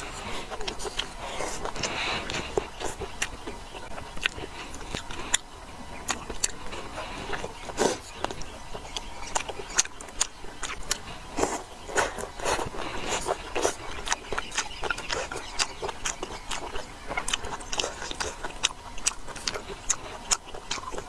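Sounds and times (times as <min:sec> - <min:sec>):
sharp clicks and crunches: 0:00.0 - 0:05.4, 0:06.1 - 0:21.0
chewing and mouth smacking: 0:00.0 - 0:21.0.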